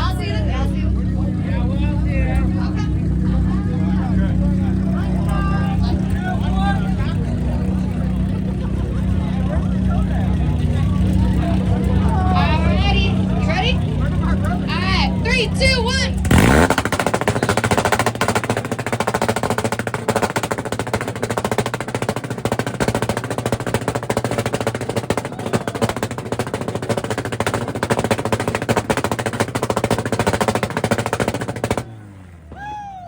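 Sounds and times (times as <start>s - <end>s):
car engine running: 0.0s - 33.0s
rapid engine pops and bangs: 1.4s - 32.8s.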